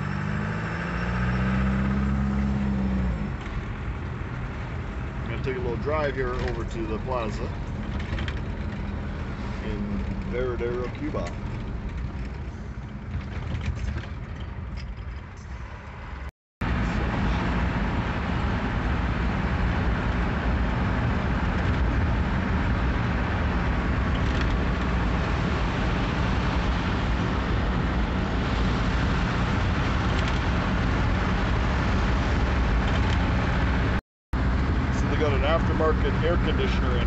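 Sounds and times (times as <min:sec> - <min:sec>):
diesel engine running: 0:00.0 - 0:37.0
road noise: 0:00.0 - 0:37.0.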